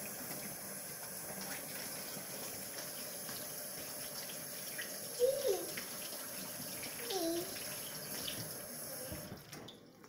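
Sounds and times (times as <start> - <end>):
faucet running into sink: 0.0 - 10.0.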